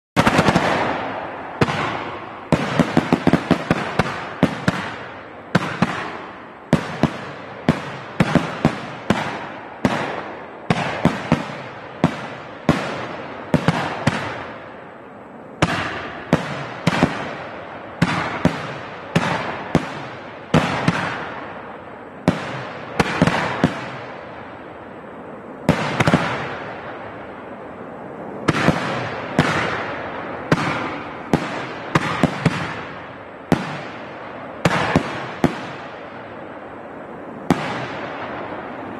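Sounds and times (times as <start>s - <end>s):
fireworks bangs: 0.2s - 38.9s.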